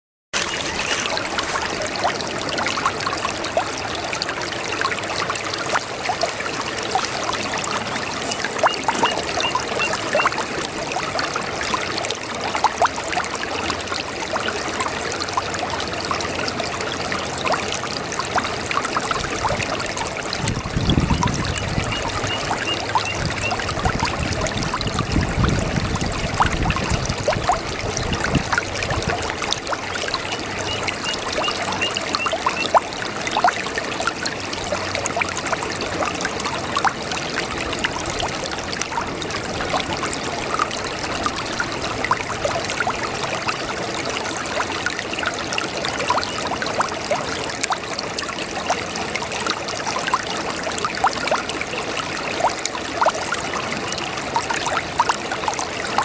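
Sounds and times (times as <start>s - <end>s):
brook babbling and gurgling: 0.4s - 56.0s.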